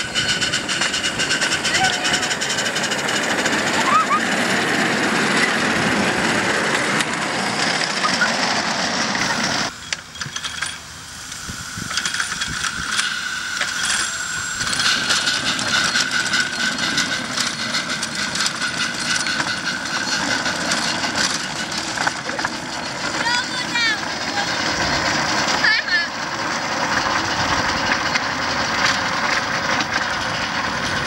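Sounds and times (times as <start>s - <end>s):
steady high whine: 0.0s - 31.0s
steam hissing: 0.0s - 31.0s
wheels clicking over rails: 0.0s - 31.0s.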